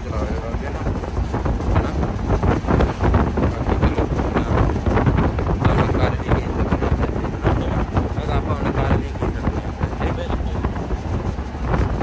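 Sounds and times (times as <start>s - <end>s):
bus engine and road rumble: 0.0s - 12.0s
wind buffeting microphone: 0.0s - 12.0s.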